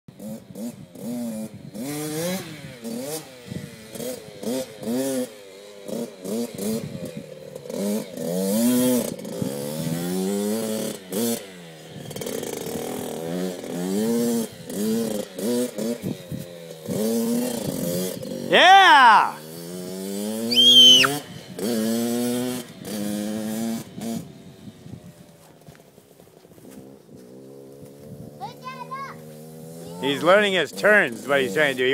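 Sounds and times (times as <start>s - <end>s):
dirt bike engine revving: 0.1s - 24.4s, 26.8s - 31.9s.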